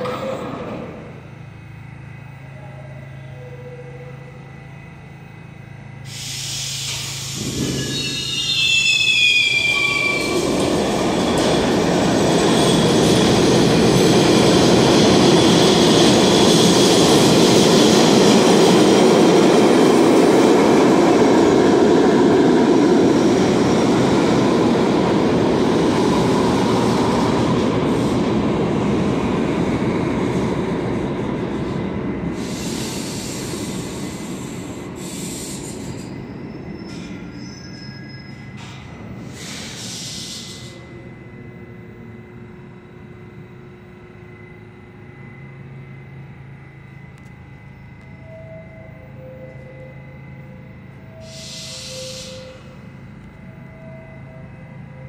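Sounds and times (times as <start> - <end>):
subway train rumbling on rails: 0.0 - 55.0
train wheels squealing: 2.2 - 5.2, 6.0 - 29.1, 30.3 - 42.3, 47.0 - 55.0.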